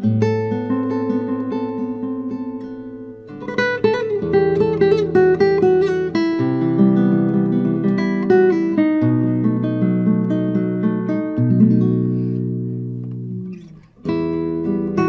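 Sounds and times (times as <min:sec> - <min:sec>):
acoustic guitar plucking and strumming: 0:00.0 - 0:15.0.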